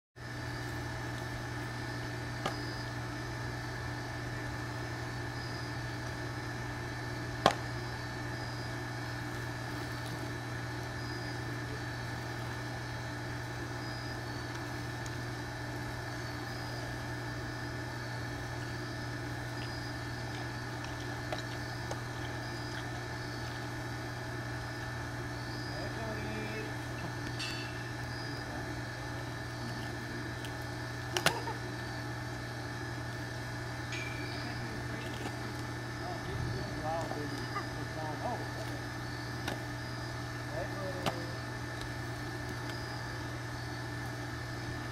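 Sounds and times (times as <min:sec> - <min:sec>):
steady machine hum: 0:00.2 - 0:44.9
tiger chewing prey: 0:00.5 - 0:03.1, 0:07.4 - 0:37.8, 0:38.4 - 0:44.9.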